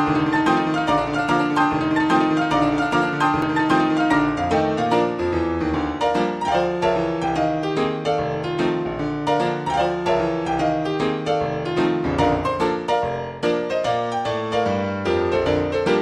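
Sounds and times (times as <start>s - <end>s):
piano playing quick notes: 0.0s - 16.0s.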